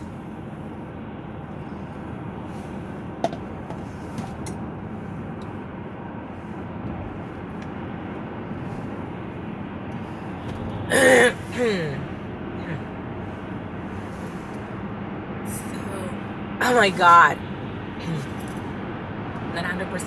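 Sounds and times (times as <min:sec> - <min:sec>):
car cabin road and engine noise: 0:00.0 - 0:20.0.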